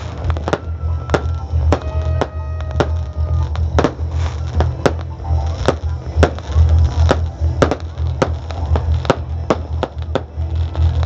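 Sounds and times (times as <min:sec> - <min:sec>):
fireworks banging and crackling: 0:00.0 - 0:11.0
music with heavy bass: 0:00.0 - 0:11.0.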